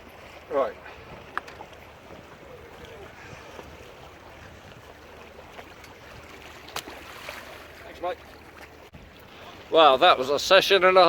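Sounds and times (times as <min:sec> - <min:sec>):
moving water: 0:00.0 - 0:11.0.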